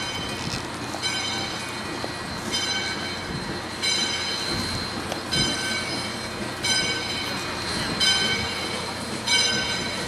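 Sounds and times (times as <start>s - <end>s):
steam locomotive bell ringing: 0.0s - 10.0s
steam locomotive rumble: 0.0s - 10.0s.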